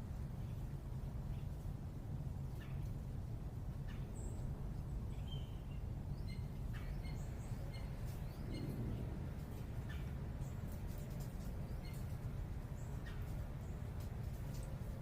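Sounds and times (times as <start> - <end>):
low urban rumble: 0.0 - 15.0
small songbirds chirping: 0.1 - 15.0.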